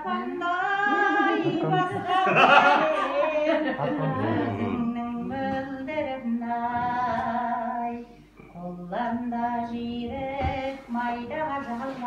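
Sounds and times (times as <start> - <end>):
elderly woman singing: 0.0 - 12.0.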